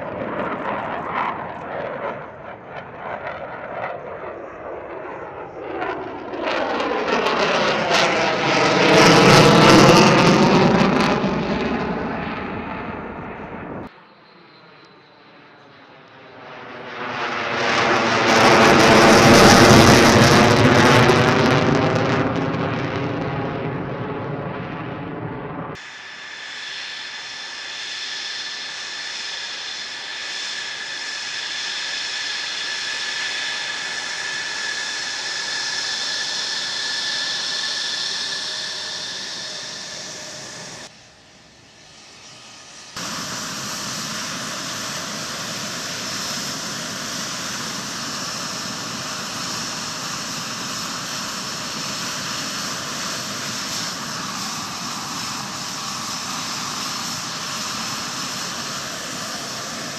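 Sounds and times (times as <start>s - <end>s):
jet engine turbine whine: 0.0s - 59.9s.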